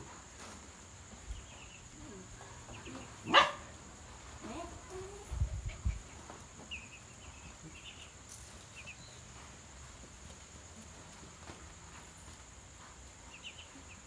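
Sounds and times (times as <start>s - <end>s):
ducklings peeping faintly: 0.0s - 14.0s
night insects trilling: 0.0s - 14.0s.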